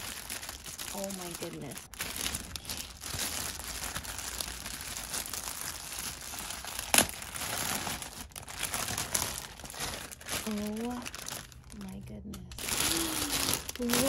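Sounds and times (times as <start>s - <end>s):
plastic bag snapping: 0.0s - 11.8s, 12.5s - 14.0s
plastic bag crinkling: 0.0s - 14.0s.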